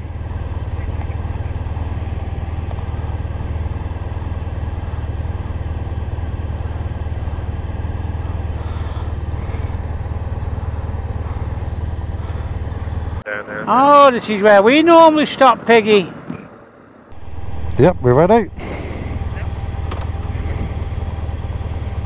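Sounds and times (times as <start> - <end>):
motorcycle engine running: 0.0 - 13.2, 17.1 - 22.0
road and wind noise: 0.0 - 22.0.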